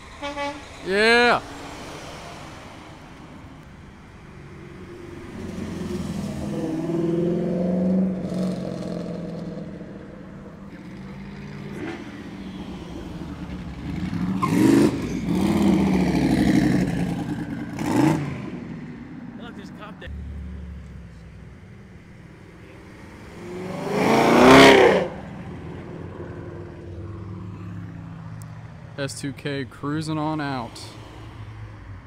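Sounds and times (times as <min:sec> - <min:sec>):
cars accelerating past: 0:00.0 - 0:29.1.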